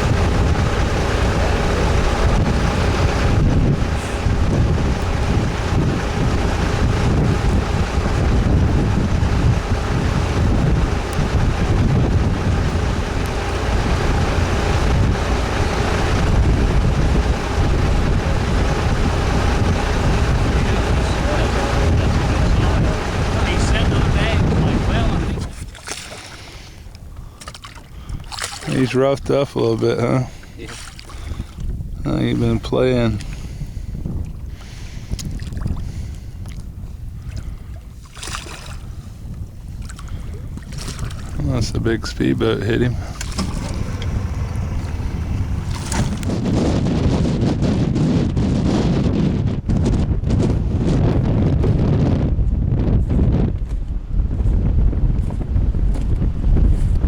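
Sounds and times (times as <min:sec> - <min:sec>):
water rushing past hull: 0:00.0 - 0:52.1
boat engine running: 0:00.0 - 0:57.0
wind buffeting microphone: 0:00.0 - 0:57.0.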